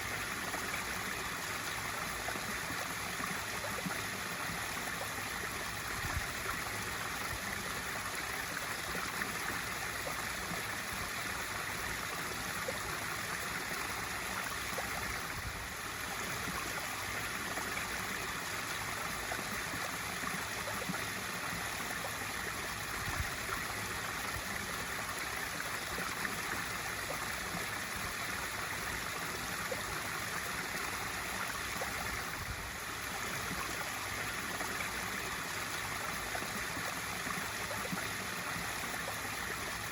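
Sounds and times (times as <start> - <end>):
waterfall pouring into pool: 0.0 - 39.9.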